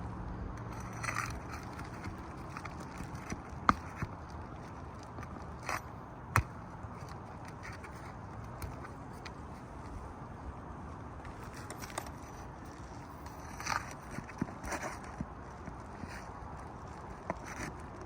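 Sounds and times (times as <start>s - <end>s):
pry bar scraping under shingles: 0.6s - 10.4s, 11.2s - 18.0s.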